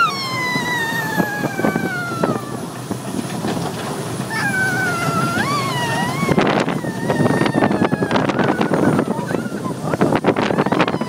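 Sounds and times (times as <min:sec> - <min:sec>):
girl squealing: 0:00.0 - 0:02.7, 0:04.3 - 0:11.0.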